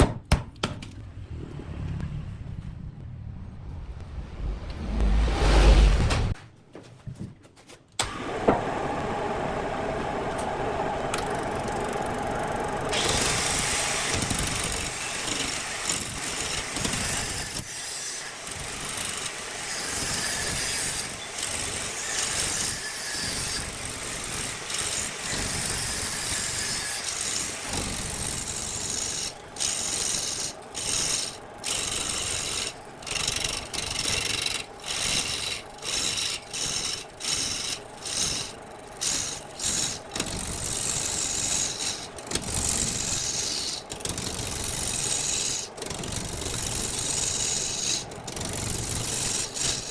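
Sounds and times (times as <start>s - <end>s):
lathe tool scraping wood: 8.0s - 49.9s.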